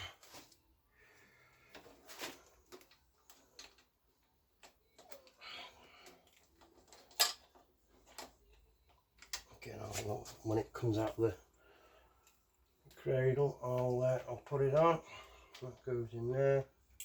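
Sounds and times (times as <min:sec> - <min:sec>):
light clicks of handling small parts: 0:01.7 - 0:15.9.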